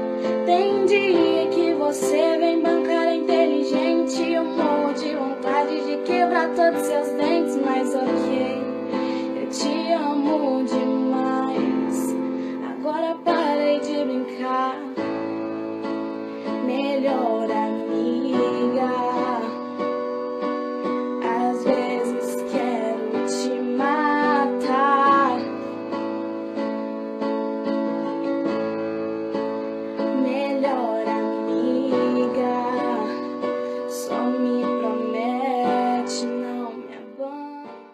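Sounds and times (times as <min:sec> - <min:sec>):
woman singing: 0:00.0 - 0:26.0, 0:30.0 - 0:37.9
guitar and keyboard chords: 0:00.0 - 0:37.9.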